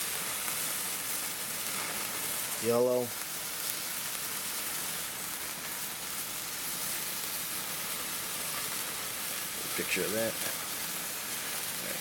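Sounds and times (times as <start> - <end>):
sparklers fizzing: 0.0 - 12.0.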